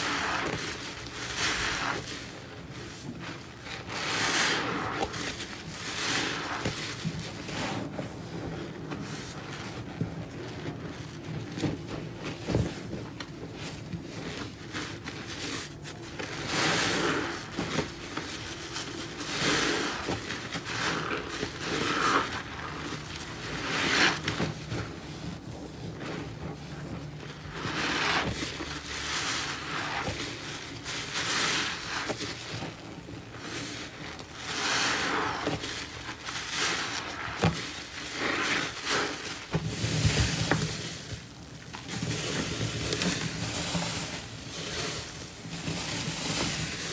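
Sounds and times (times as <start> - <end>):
sponge squelching in foamy paste: 0.0 - 46.9.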